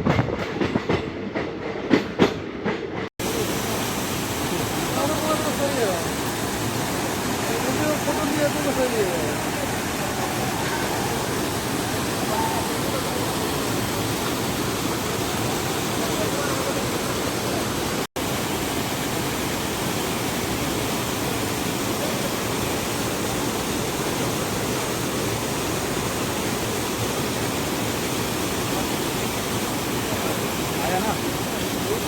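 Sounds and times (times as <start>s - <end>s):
waterfall rushing: 3.2s - 32.0s.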